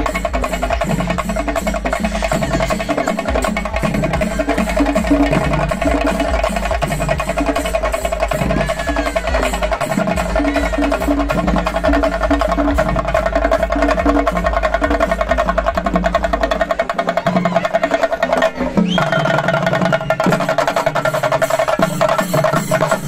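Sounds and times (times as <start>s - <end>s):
barrel drums playing: 0.0s - 23.0s.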